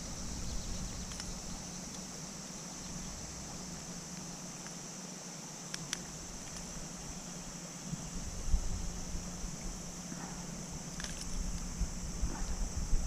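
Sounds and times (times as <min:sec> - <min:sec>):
faint low hum: 0:00.0 - 0:13.0
high-pitched hiss: 0:00.0 - 0:13.0.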